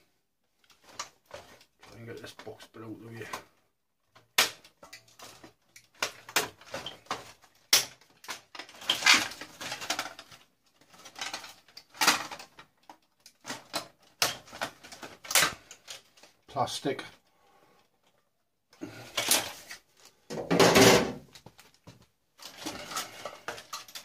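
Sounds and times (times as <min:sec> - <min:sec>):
plastic and metal parts clattering: 0:00.5 - 0:18.2, 0:18.8 - 0:24.0.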